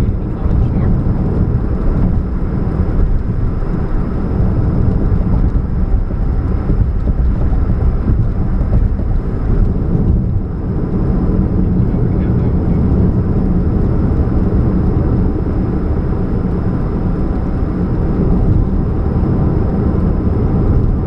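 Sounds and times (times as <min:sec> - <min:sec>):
car engine drone: 0:00.0 - 0:21.0
exhaust humming: 0:00.0 - 0:21.0.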